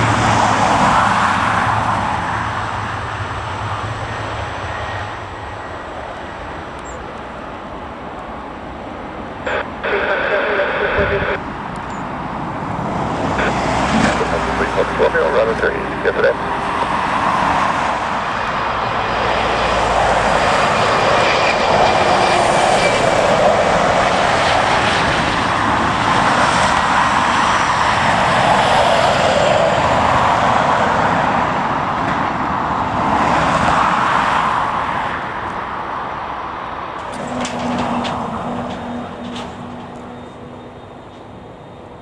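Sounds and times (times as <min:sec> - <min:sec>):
jet engines passing: 0:00.0 - 0:42.0.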